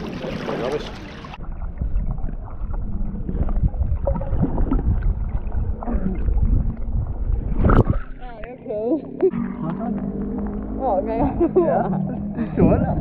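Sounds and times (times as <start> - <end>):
bubbling gurgles: 0.0 - 10.6
muffled underwater water rumble: 0.0 - 13.0.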